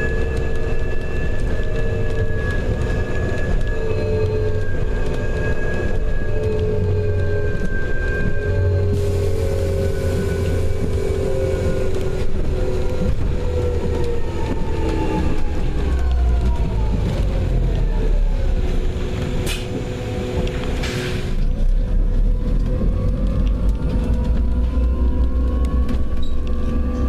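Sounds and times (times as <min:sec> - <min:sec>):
bus engine rumbling and whining: 0:00.0 - 0:27.0.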